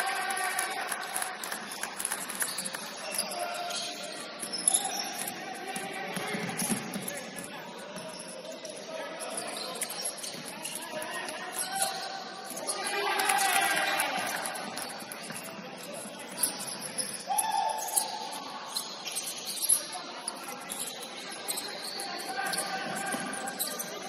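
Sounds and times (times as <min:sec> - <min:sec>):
sneakers squeaking: 0:01.7 - 0:24.0.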